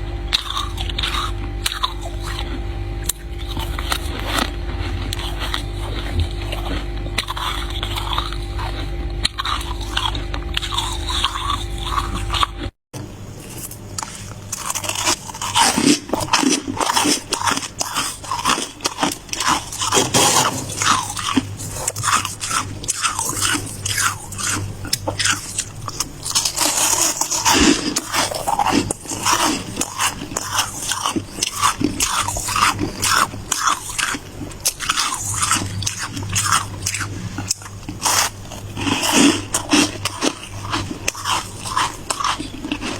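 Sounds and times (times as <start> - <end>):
steady low hum: 0.0 - 42.9
ice crunching being chewed: 0.2 - 42.9.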